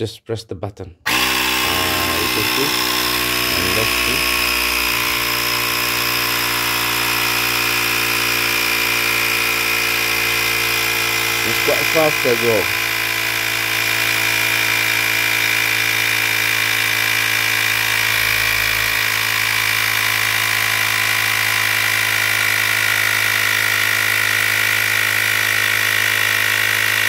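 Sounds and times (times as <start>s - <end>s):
tire inflator compressor running: 1.1s - 27.0s.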